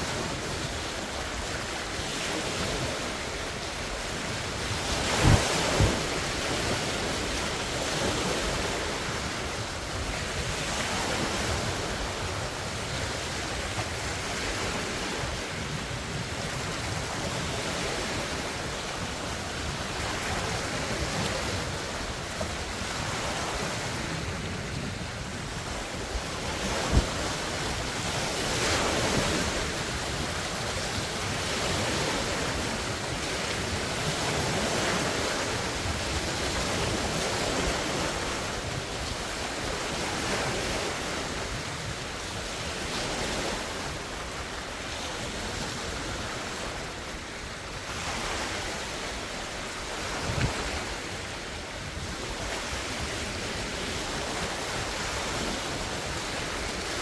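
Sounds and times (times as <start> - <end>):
lake waves splashing: 0.0 - 57.0
wind on microphone: 0.0 - 57.0.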